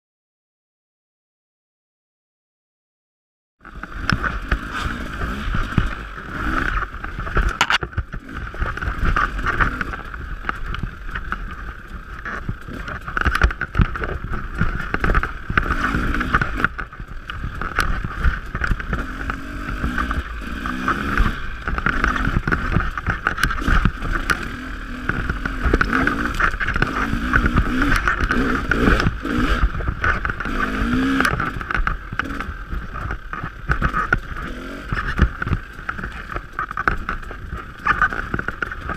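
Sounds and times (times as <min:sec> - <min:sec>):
bike knocks and rattles: 0:03.7 - 0:38.9
dirt bike engine revving: 0:03.7 - 0:38.9.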